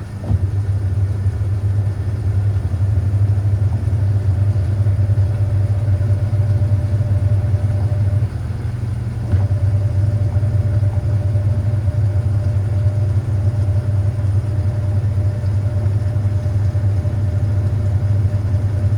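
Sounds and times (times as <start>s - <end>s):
washing machine spinning: 0.0s - 18.9s.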